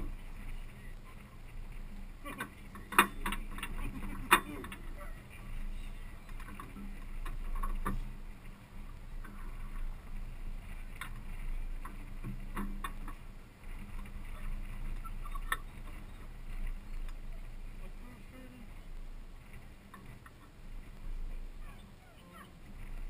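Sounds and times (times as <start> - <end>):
truck engine and tyre drone: 0.0 - 23.0.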